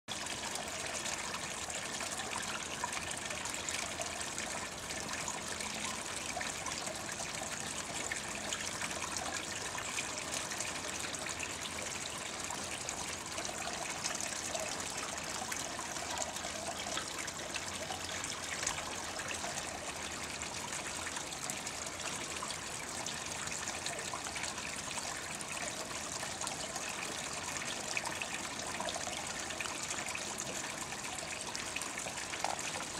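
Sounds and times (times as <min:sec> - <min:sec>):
fountain water trickling: 0:00.1 - 0:32.9.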